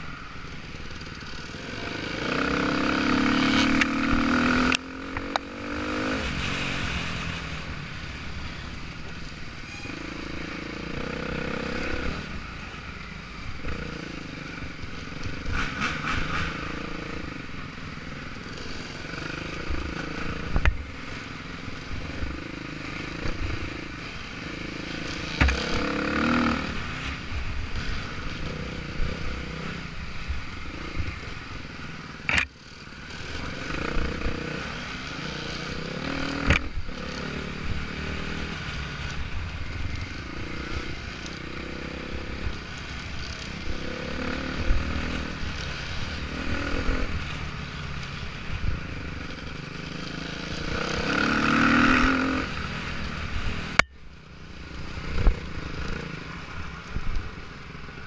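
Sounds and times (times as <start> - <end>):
motorcycle engine revving: 0.0 - 8.7, 9.6 - 53.9.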